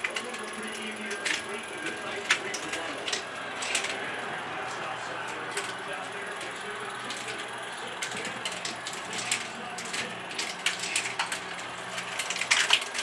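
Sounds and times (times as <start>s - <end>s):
marbles clattering on wooden tracks: 0.0s - 13.0s
motor gears humming: 0.0s - 13.0s.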